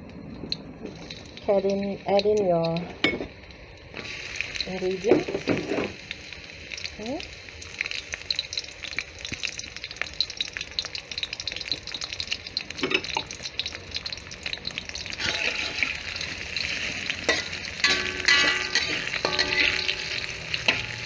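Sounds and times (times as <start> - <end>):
vegetables sizzling in oil: 0.6 - 21.0.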